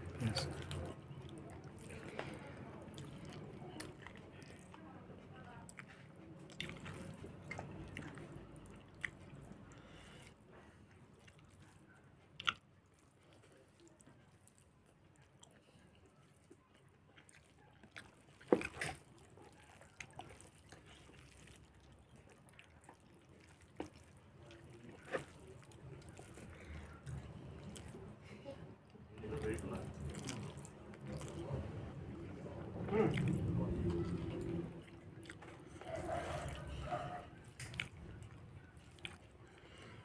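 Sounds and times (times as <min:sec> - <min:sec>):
person chewing wet mouth sounds: 0:00.0 - 0:28.2, 0:28.8 - 0:40.0.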